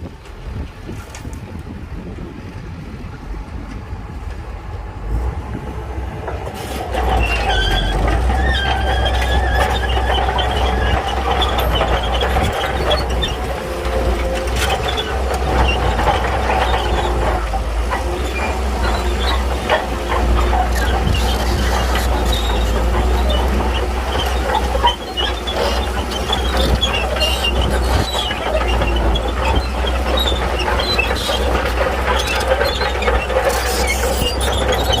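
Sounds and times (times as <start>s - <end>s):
bulldozer diesel engine: 0.0s - 35.0s
steel tracks squealing and clanking: 4.2s - 35.0s.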